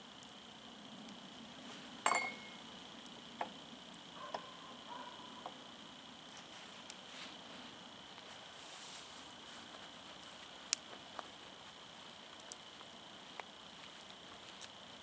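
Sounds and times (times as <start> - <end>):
campfire crackling: 0.0 - 15.0
faint steady hiss: 0.0 - 15.0.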